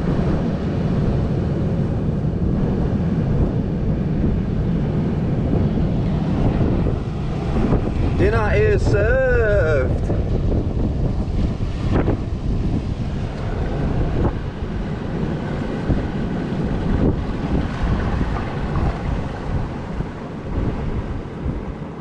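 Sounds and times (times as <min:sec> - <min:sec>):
surf washing on shore: 0:00.0 - 0:22.0
wind buffeting microphone: 0:00.0 - 0:22.0.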